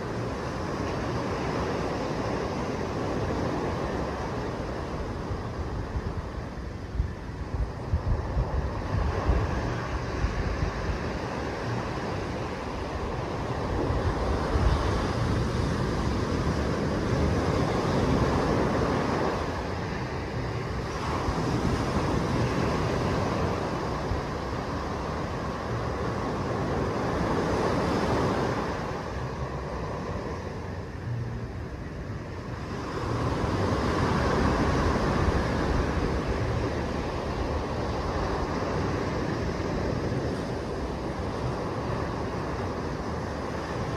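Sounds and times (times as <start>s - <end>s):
waves breaking on beach: 0.0s - 43.9s
wind rumble on microphone: 0.0s - 43.9s.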